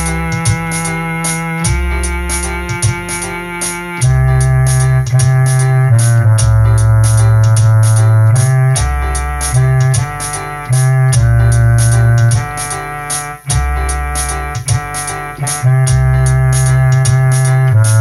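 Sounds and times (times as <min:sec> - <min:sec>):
drum machine hi-hat beat: 0:00.0 - 0:18.0
electronic keyboard playing hymn chords: 0:00.0 - 0:18.0.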